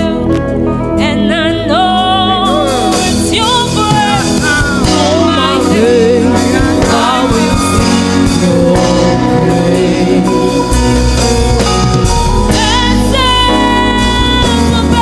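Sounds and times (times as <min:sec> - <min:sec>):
gospel band playing live: 0:00.0 - 0:15.0.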